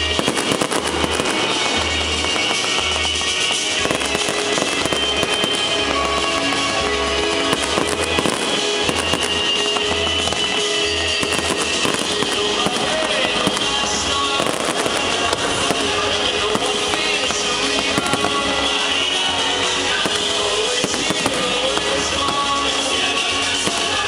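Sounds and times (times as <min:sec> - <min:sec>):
fireworks popping and crackling: 0:00.0 - 0:24.0
show music with pulsing bass: 0:00.0 - 0:24.0.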